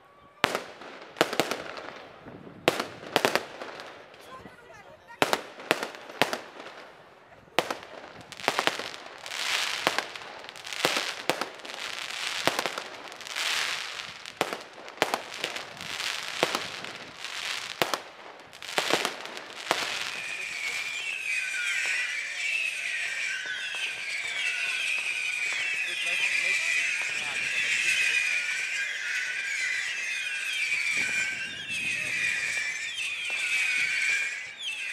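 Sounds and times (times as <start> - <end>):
fireworks crackling and hissing: 0.3 - 34.9
firework bangs: 0.4 - 4.3, 5.2 - 34.9.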